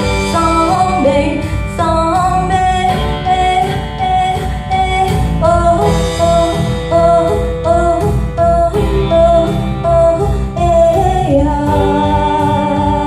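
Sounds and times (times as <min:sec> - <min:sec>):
band with steady beat: 0:00.0 - 0:13.0
woman singing: 0:00.0 - 0:13.0.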